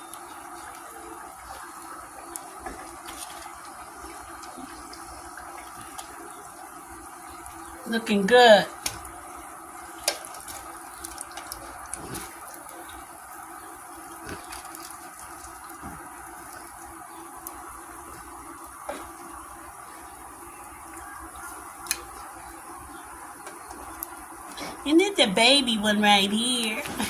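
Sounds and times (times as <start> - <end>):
oil popping: 0.0 - 24.8
chicken sizzling in oil: 0.0 - 24.9.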